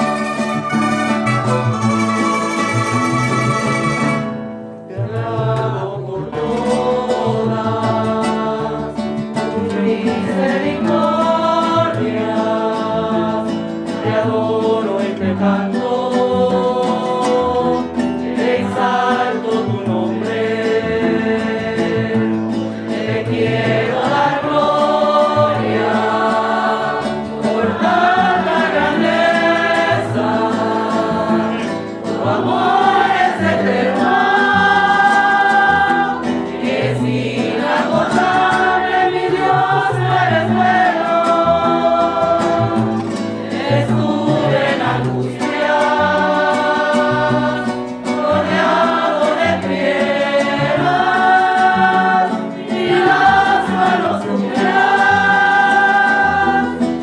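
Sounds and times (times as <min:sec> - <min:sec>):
guitar accompaniment: 0:00.0 - 0:57.0
women's choir singing a hymn: 0:05.0 - 0:57.0.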